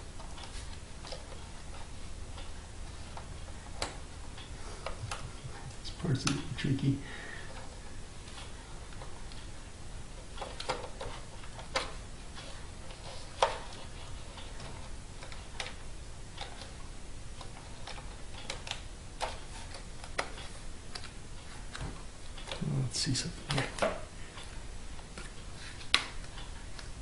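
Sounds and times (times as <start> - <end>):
low steady hiss: 0.0 - 27.0.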